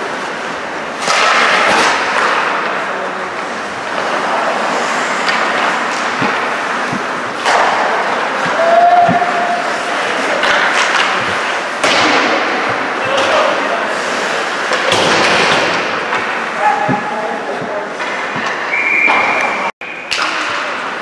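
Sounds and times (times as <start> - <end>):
skates scraping ice: 0.0 - 19.6
hockey sticks hitting puck: 0.1 - 20.9.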